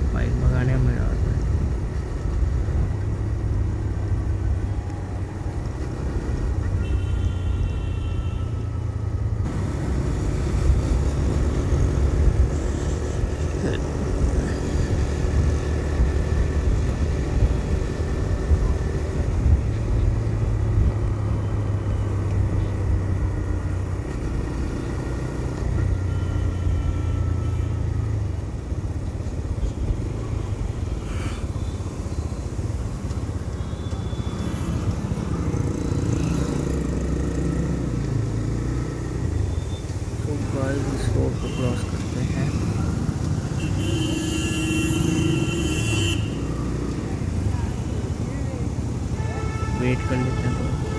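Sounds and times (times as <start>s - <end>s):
road noise: 0.0s - 50.9s.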